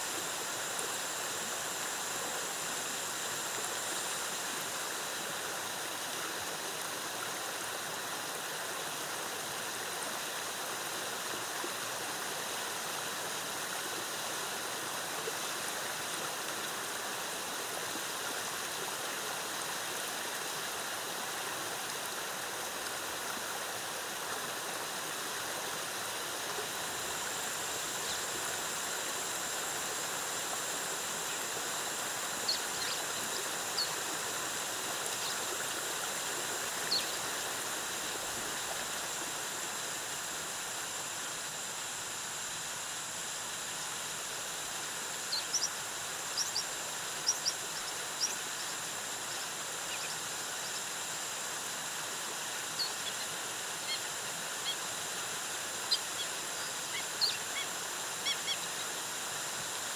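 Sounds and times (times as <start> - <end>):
waterfall cascading: 0.0 - 59.9.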